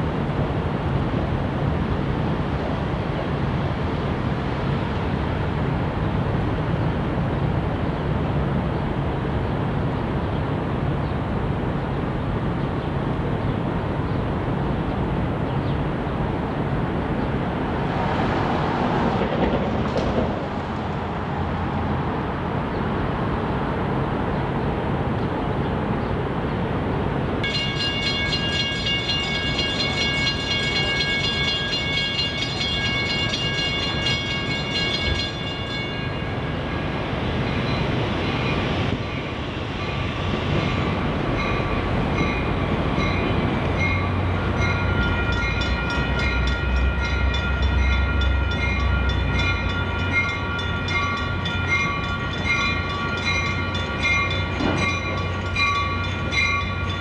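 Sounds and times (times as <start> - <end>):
passenger train rumbling on rails: 0.0 - 57.0.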